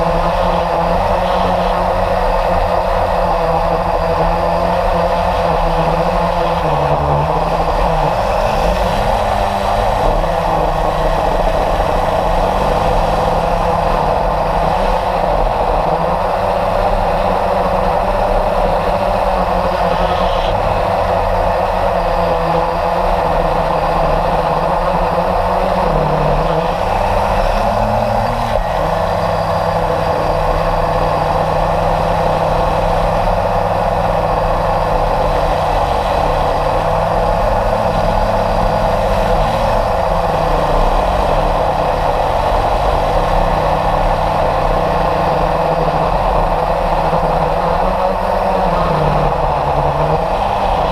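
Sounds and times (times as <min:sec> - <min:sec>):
model airplane motor and propeller: 0:00.0 - 0:50.9.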